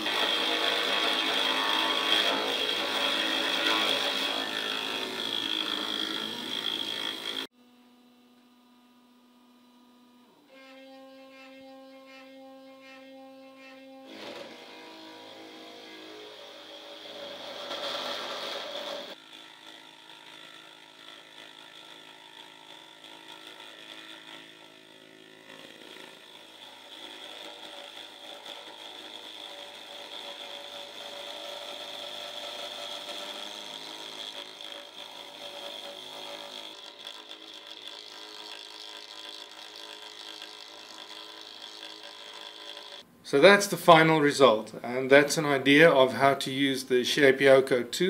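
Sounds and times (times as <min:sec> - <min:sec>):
router spindle whining: 0:00.0 - 0:07.5, 0:09.6 - 0:43.1
router cutting wood: 0:00.0 - 0:43.1.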